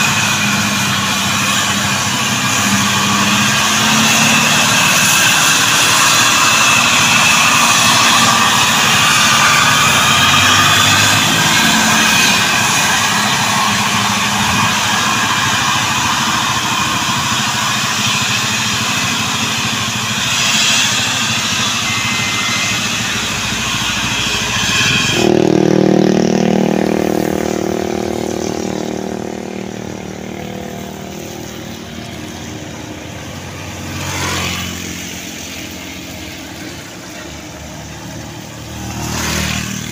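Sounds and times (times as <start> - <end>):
crane truck engine driving by: 0.0 - 39.9
high whistling whine: 0.0 - 39.9
motorcycles passing on wet road: 0.0 - 39.9.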